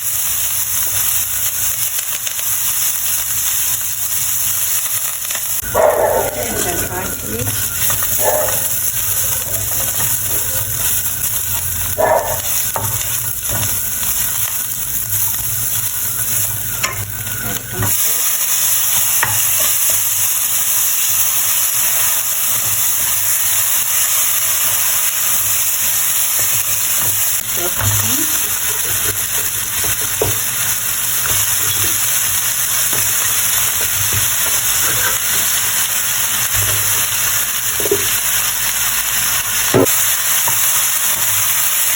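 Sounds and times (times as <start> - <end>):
oil sizzling in a frying pan: 0.0 - 41.9.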